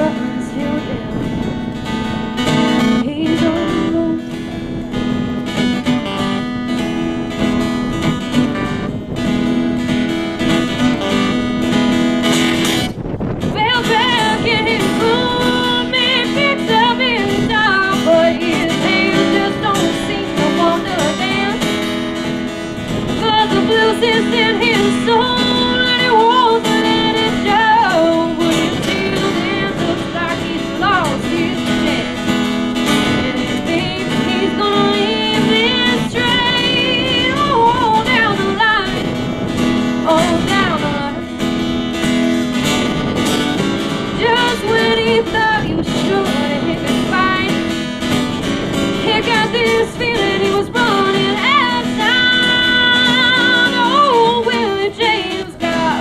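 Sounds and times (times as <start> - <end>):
acoustic blues guitar: 0.0 - 56.0.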